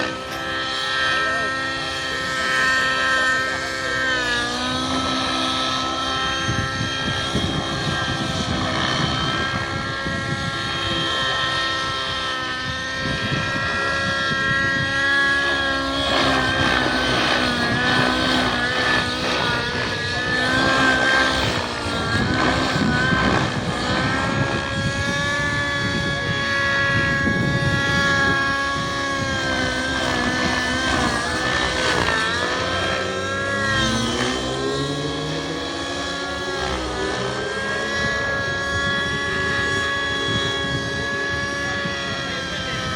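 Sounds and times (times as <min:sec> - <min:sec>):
model helicopter rotor whine: 0:00.0 - 0:42.9.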